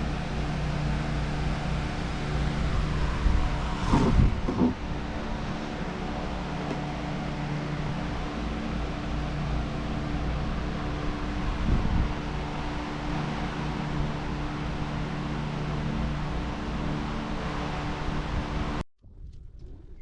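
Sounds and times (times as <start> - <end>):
mechanical hum with tones: 0.0 - 20.0.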